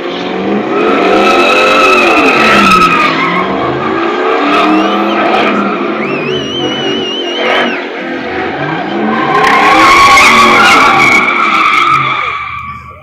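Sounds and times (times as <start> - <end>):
vehicle engine revving: 0.0 - 13.0
tyres squealing on pavement: 1.0 - 13.0.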